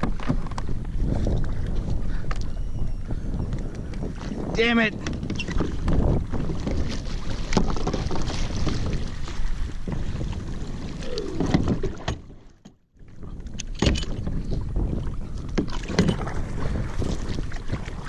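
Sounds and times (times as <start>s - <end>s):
wind buffeting microphone: 0.0s - 12.4s, 13.0s - 18.0s
water slapping kayak hull: 0.0s - 18.0s.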